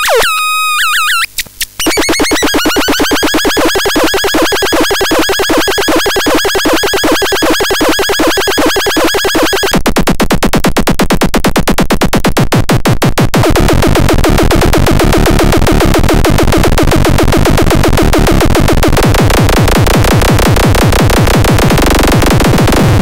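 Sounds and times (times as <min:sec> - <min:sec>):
buzzy synthesizer tones: 0:00.0 - 0:09.8, 0:13.4 - 0:23.0.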